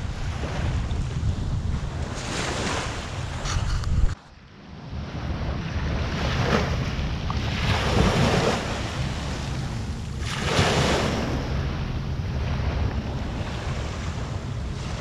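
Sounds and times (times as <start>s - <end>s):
waves washing on shore: 0.0s - 15.0s
wind on microphone: 0.0s - 15.0s.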